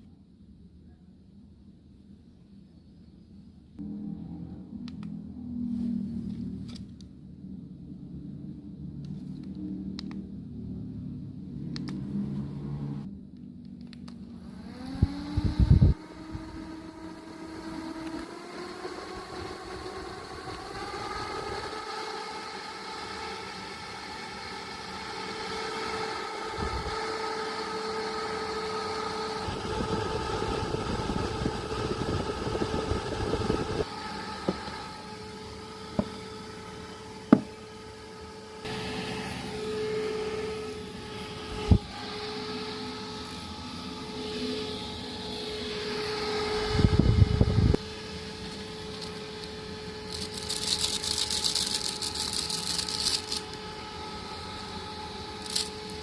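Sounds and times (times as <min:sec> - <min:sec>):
electric fan humming: 0:08.0 - 0:56.0.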